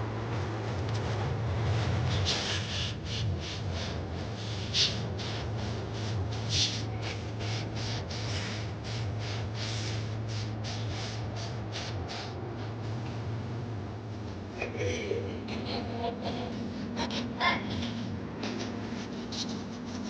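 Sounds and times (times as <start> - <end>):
low hum of jet cabin: 0.0 - 20.0.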